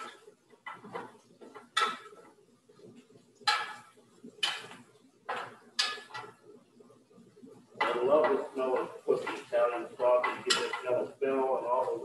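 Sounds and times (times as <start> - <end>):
utensil scraping in a pan: 0.0 - 6.4, 7.4 - 12.0.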